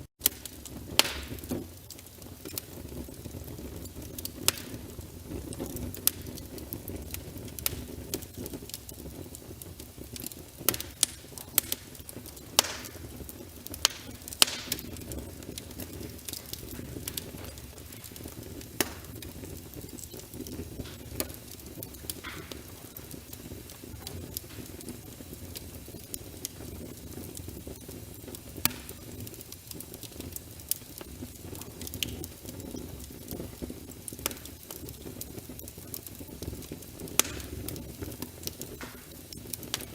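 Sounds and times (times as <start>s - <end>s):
burning wood crackles and pops: 0.0s - 39.9s
flames rumbling and hissing: 0.0s - 39.9s.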